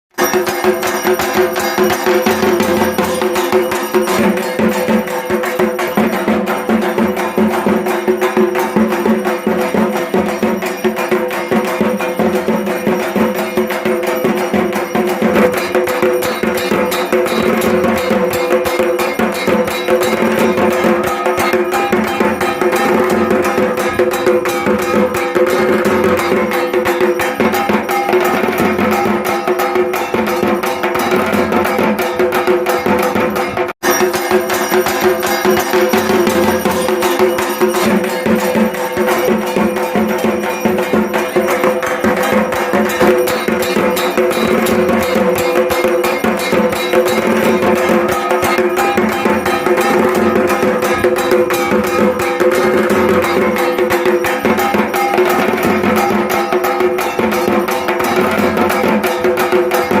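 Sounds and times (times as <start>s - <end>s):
barrel drum played with sticks: 0.1s - 60.0s
steady ringing tones: 0.2s - 60.0s.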